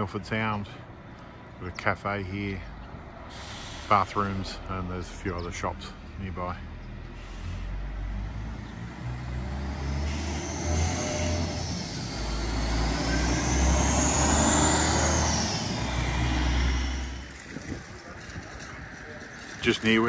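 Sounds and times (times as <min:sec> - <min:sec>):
vehicle passing on road: 0:00.6 - 0:20.0.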